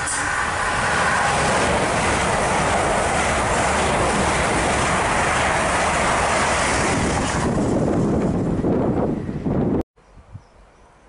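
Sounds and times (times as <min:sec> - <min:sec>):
train passing at speed: 0:00.0 - 0:09.8.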